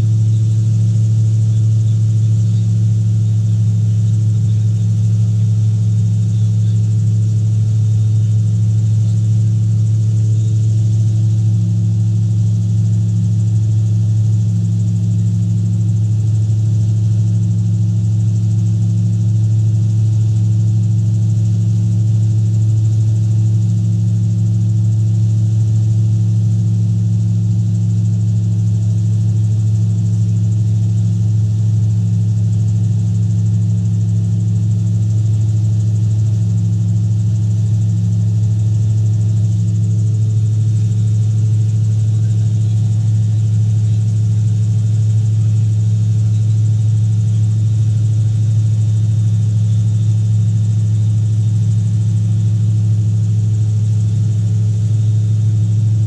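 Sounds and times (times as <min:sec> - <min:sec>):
gyrocopter engine drone: 0:00.0 - 0:56.0.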